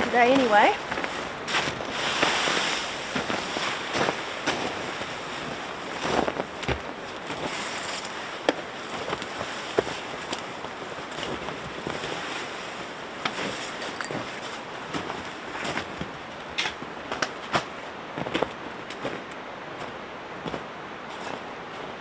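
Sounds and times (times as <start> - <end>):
tarp fabric rustling and flapping: 0.0 - 19.2.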